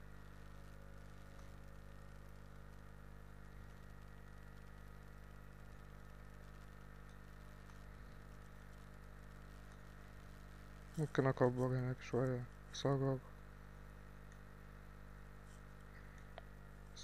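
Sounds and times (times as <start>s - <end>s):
faint hum with hiss: 0.0s - 17.0s.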